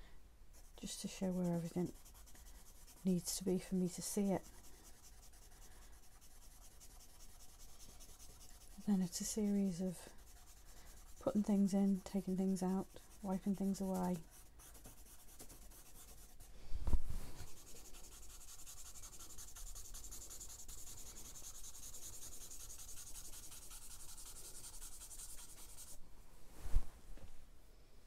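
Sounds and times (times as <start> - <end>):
charcoal scratching on paper: 0.6 - 16.5, 17.4 - 26.0.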